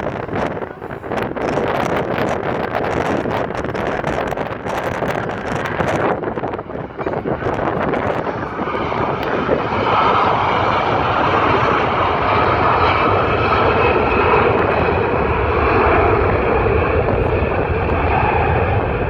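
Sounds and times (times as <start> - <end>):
jet airliner engines running: 0.0 - 19.0.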